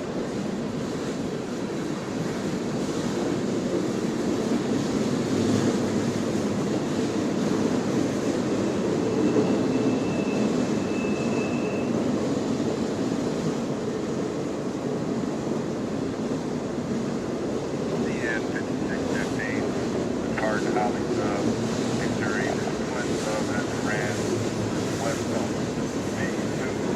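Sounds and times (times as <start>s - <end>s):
freight train rumbling past: 0.0s - 26.9s.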